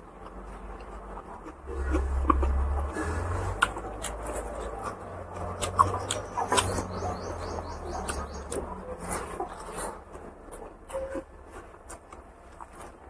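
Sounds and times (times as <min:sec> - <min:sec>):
low steady hum: 0:00.0 - 0:13.0
person chewing: 0:00.0 - 0:13.0.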